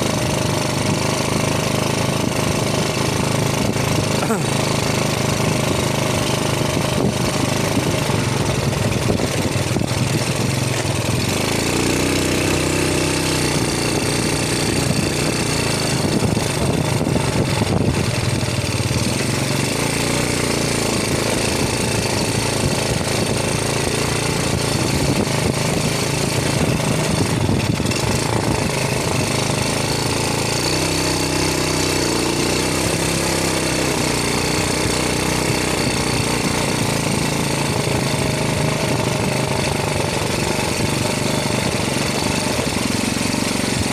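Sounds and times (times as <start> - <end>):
loud mechanical rattle with hum: 0.0 - 43.9.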